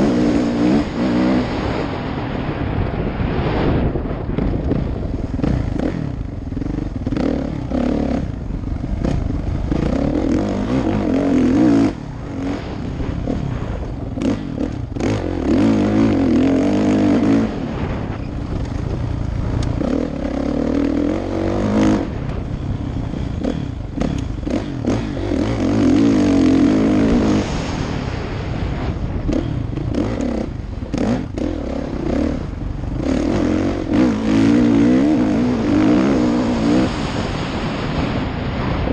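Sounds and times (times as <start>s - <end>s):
dirt bike engine revving: 0.0s - 2.4s, 3.5s - 38.8s.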